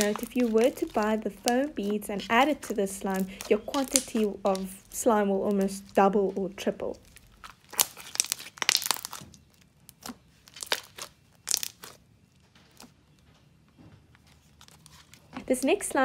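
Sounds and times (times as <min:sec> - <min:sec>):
slime squishing with crunchy clicks: 0:00.0 - 0:13.2.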